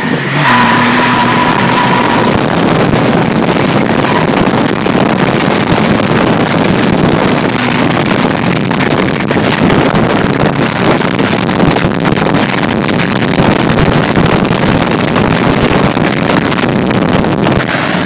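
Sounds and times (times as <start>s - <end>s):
diesel pickup engine roar: 0.0s - 18.0s
wind buffeting microphone: 0.0s - 18.0s.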